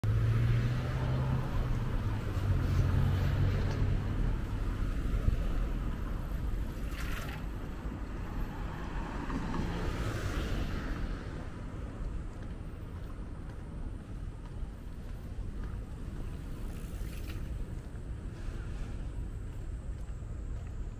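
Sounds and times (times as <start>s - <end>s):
road noise: 0.0s - 20.9s
vehicle engine hum: 0.0s - 20.9s.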